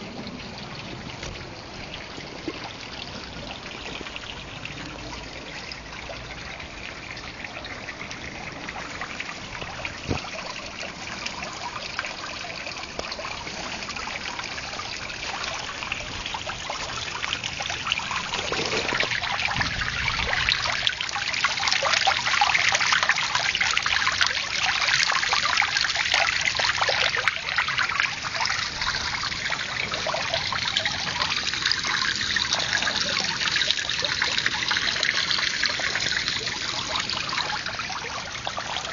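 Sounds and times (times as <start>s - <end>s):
water feature trickling and splashing: 0.0s - 38.9s.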